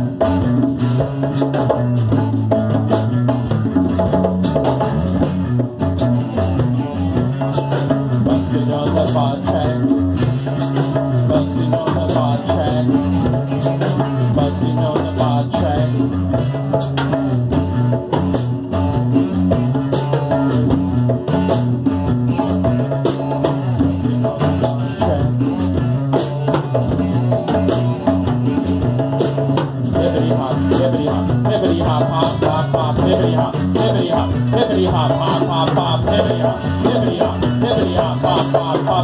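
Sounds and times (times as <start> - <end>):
djembe hand drum beat: 0.0 - 39.0
electric guitars playing: 0.0 - 39.0
repeating bass line: 0.0 - 39.0.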